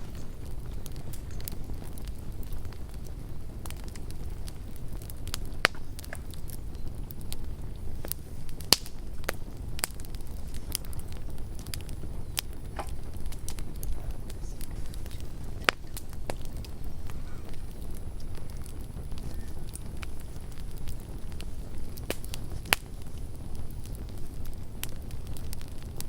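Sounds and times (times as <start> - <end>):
fire crackling: 0.0 - 26.0
low rumble of campfire: 0.0 - 26.0
sharp fire pops: 0.0 - 26.0.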